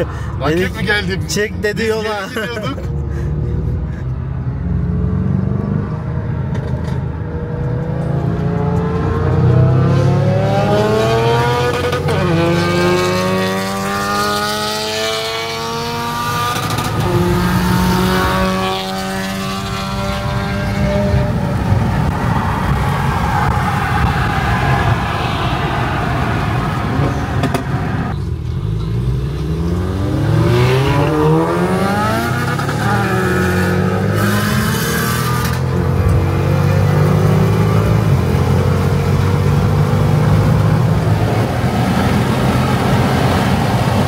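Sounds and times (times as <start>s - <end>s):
car engine accelerating hard: 7.3s - 28.2s, 28.8s - 44.0s.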